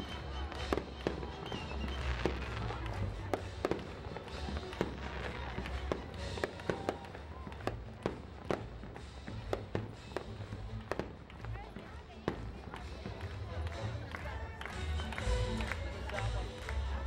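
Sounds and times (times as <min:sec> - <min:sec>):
orchestral music: 0:00.0 - 0:11.6, 0:12.2 - 0:17.0
fireworks bangs and crackles: 0:00.0 - 0:17.0.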